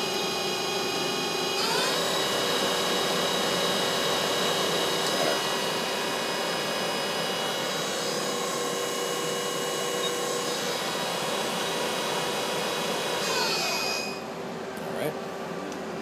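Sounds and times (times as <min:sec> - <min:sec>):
lathe spindle whirring: 0:00.0 - 0:14.6.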